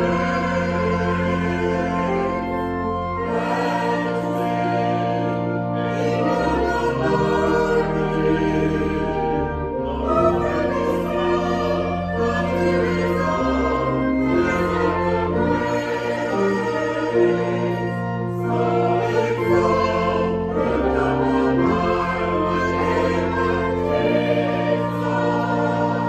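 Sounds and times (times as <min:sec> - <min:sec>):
choir singing sacred piece: 0:00.0 - 0:26.0.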